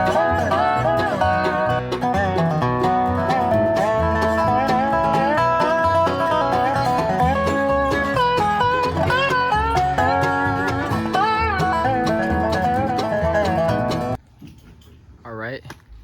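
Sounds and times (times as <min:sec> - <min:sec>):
upbeat bluegrass tune: 0:00.0 - 0:14.2.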